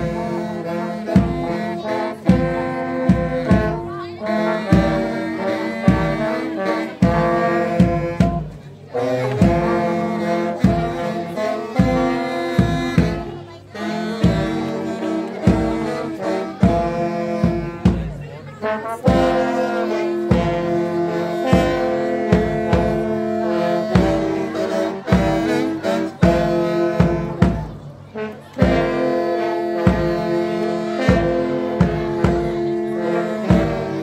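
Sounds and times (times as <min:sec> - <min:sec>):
brass band playing: 0:00.0 - 0:34.0.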